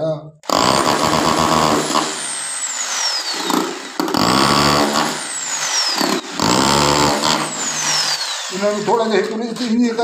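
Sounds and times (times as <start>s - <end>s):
electric drill motor whining: 0.4s - 10.0s.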